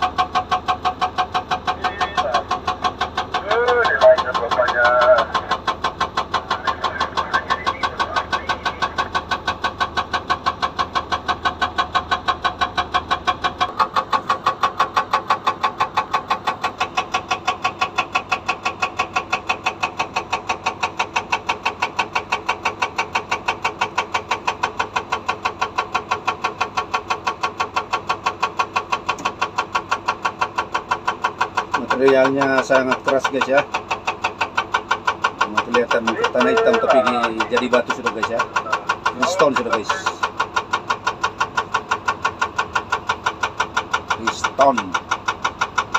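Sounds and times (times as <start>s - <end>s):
diesel engine running: 0.0s - 45.9s
hydraulic breaker hammering rock: 0.0s - 45.9s.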